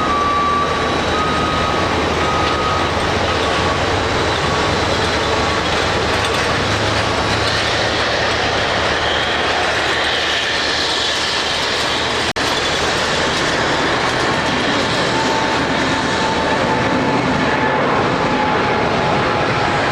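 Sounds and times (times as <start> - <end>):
jet engine noise: 0.0 - 19.9
landing gear rumbling over runway: 0.0 - 19.9.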